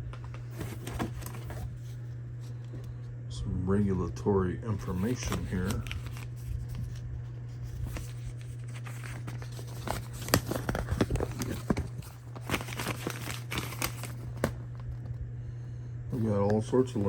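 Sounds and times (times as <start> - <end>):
paper rustling and crinkling: 0.0 - 3.0, 4.8 - 15.2, 16.2 - 17.0
steady low hum: 0.0 - 17.0.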